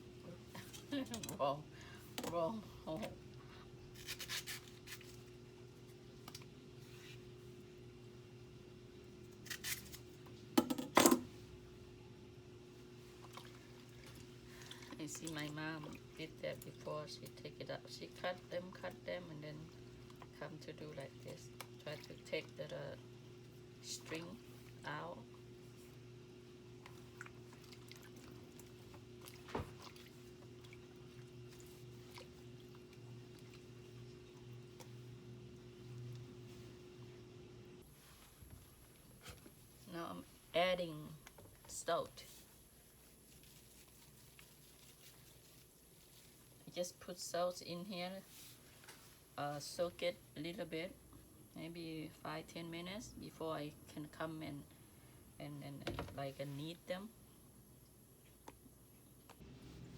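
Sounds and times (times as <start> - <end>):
steady low hum: 5.2 - 59.9.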